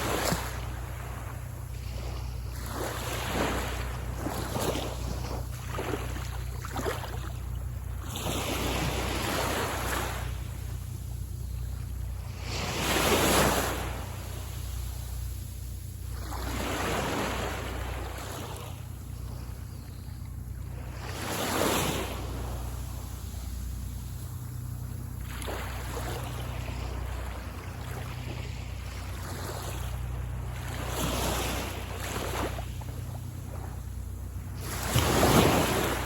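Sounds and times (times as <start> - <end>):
waves breaking on beach: 0.0 - 36.0.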